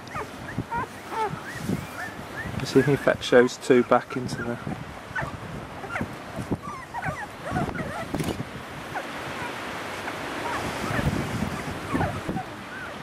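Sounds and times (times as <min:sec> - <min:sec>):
puppies whimpering and squeaking: 0:00.0 - 0:13.0
wind rustle on microphone: 0:00.0 - 0:13.0.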